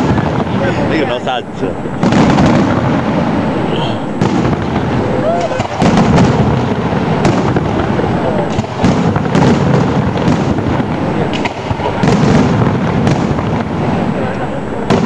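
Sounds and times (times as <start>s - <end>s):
firework shells bursting: 0.0s - 1.2s, 1.8s - 15.0s
rumble and crackle of fireworks: 0.0s - 15.0s.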